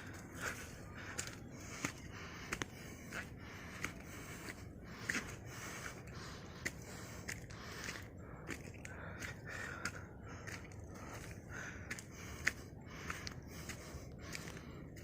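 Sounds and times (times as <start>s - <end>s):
footsteps on wet path: 0.0s - 15.0s.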